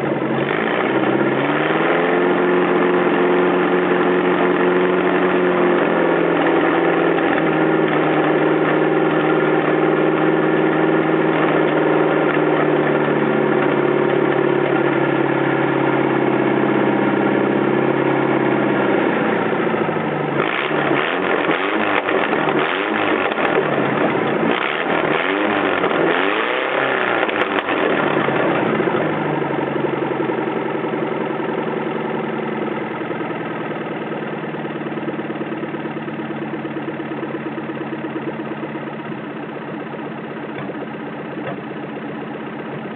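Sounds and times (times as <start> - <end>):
engine idling and revving: 0.0 - 42.9.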